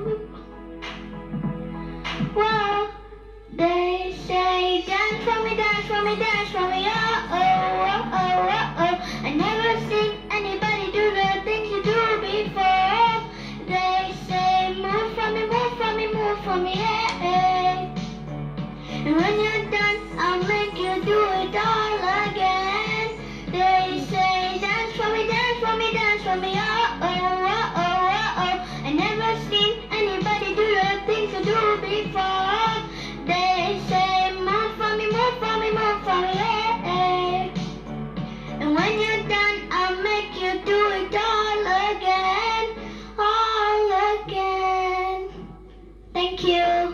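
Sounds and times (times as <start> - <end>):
girl singing into microphone: 0.0 - 0.4, 2.1 - 46.9
backing music: 0.0 - 42.8.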